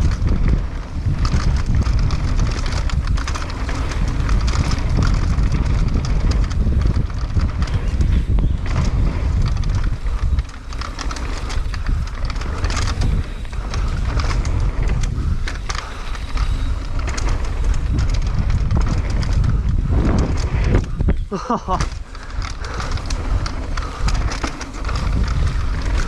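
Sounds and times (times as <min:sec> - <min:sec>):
bicycle tyre noise: 0:00.0 - 0:26.0
bike clicks and rattles: 0:00.0 - 0:26.0
wind buffeting microphone: 0:00.0 - 0:26.0.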